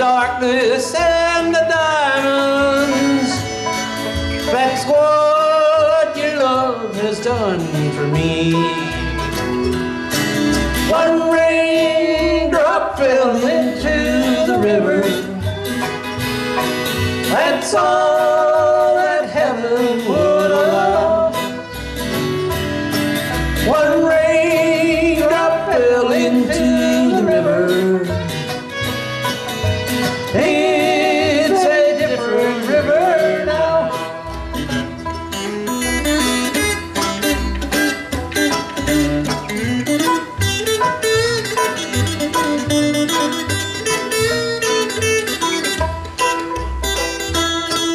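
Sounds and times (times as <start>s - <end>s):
acoustic guitars: 0.0s - 47.9s
banjo: 0.0s - 47.9s
fiddle: 0.0s - 47.9s
upright bass: 0.0s - 47.9s.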